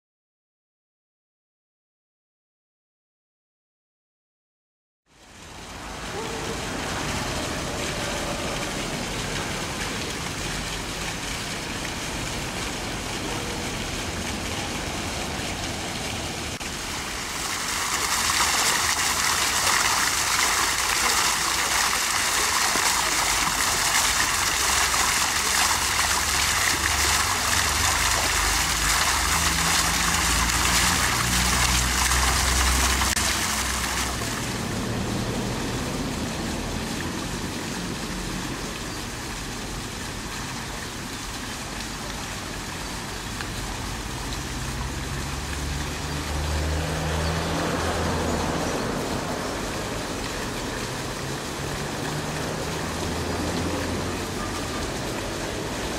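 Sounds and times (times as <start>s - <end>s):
fountain water splashing: 5.1s - 55.9s.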